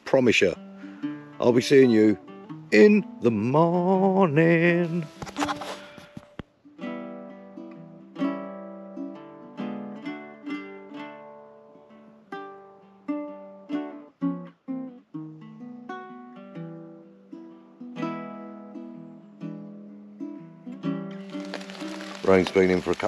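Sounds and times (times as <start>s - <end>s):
plucked acoustic guitar: 0.0s - 23.0s.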